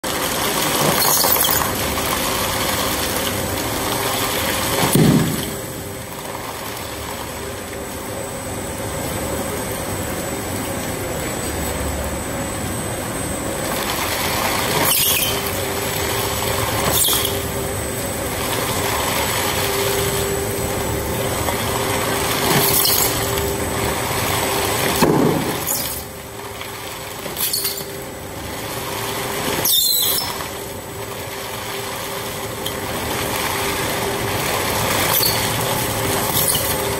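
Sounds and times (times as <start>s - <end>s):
plastic shredder running: 0.0s - 36.9s.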